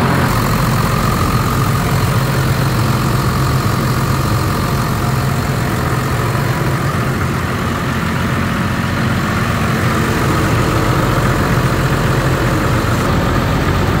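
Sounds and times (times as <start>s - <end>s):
diesel compressor running: 0.0s - 14.0s.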